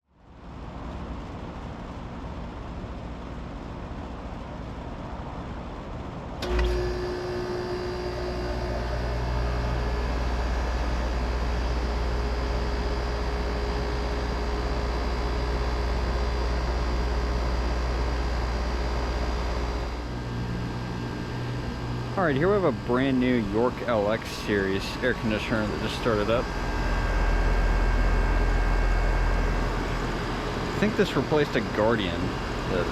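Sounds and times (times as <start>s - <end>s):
faint steady whine: 0.1s - 32.9s
air conditioner humming: 0.2s - 32.9s.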